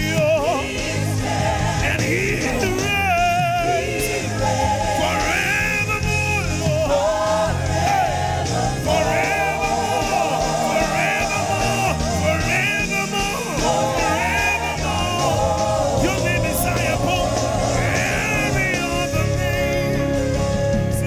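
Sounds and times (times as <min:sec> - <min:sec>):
band bass and drums: 0:00.0 - 0:21.0
singers holding long notes: 0:00.0 - 0:21.0.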